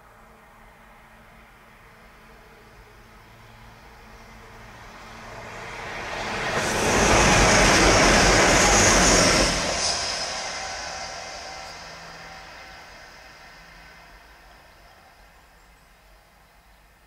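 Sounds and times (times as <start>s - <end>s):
train rushing past: 1.1s - 15.6s.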